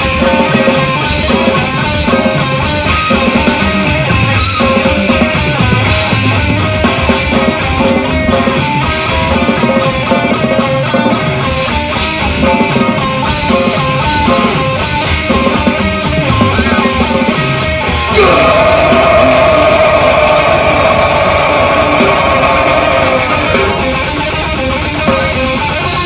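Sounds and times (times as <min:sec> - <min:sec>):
distorted electric guitar riffing: 0:00.0 - 0:26.0
fast drums: 0:00.0 - 0:26.0.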